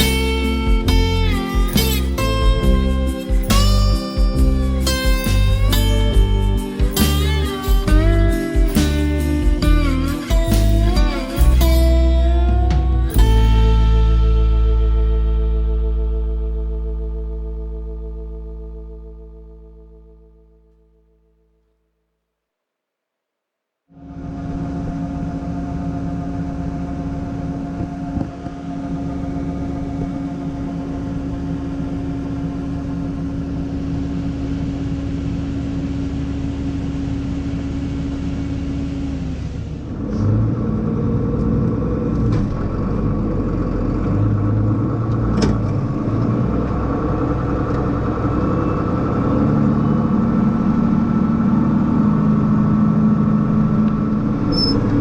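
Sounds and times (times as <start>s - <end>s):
louder engine running: 0.0s - 15.0s, 24.0s - 55.0s
farm machinery engine running: 0.0s - 20.0s, 24.0s - 55.0s.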